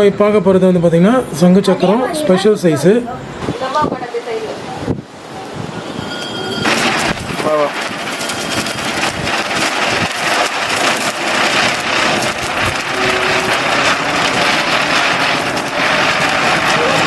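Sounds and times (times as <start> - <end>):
ground spinner firework hissing: 1.3 - 17.0.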